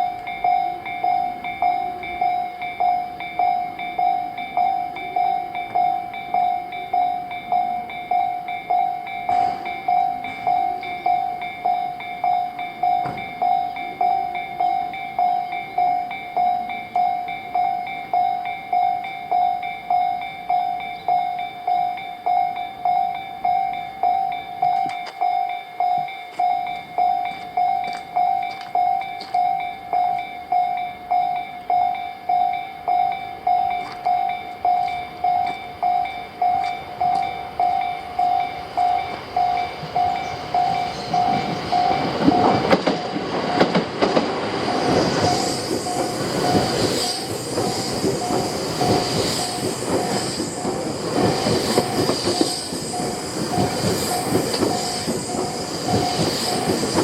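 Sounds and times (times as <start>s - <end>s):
train wheels clattering on rails: 0.0s - 18.2s, 24.0s - 25.4s, 26.0s - 30.6s, 33.5s - 57.0s
level crossing warning bell: 0.0s - 57.0s.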